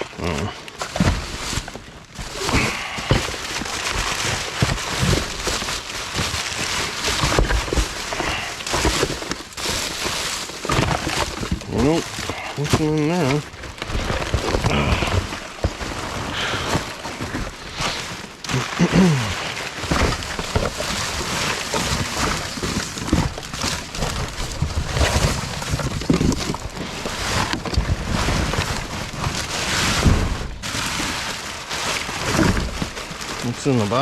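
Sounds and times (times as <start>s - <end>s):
plastic bags rustling: 0.0s - 34.0s.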